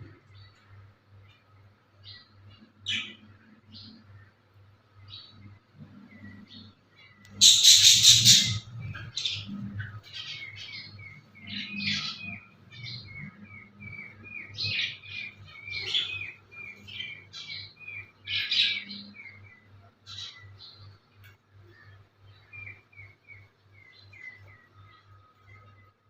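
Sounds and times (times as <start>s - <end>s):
small birds chirping: 0.0s - 26.0s
harsh bird calls: 1.2s - 26.0s.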